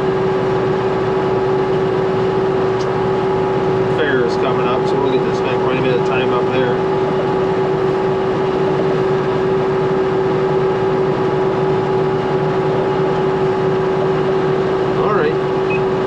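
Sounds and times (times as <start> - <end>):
round baler whine: 0.0 - 16.0
tractor engine droning: 0.0 - 16.0.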